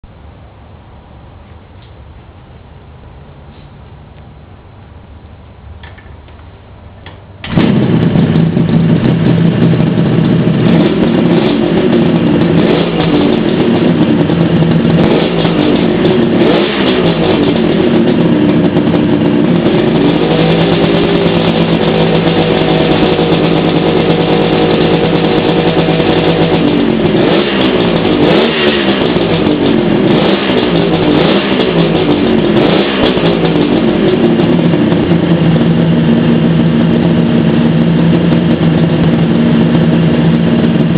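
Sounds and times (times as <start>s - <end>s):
two-stroke engine revving: 7.4s - 40.9s.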